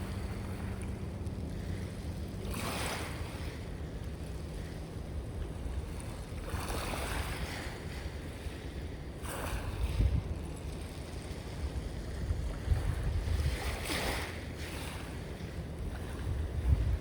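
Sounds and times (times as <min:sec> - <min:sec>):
sea waves washing in: 0:00.0 - 0:17.0
wind rumble on microphone: 0:00.0 - 0:17.0.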